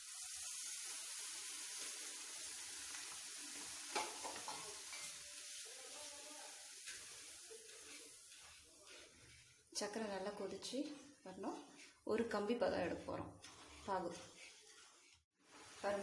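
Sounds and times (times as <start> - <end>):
sugar syrup sizzling in pan: 0.0 - 16.0.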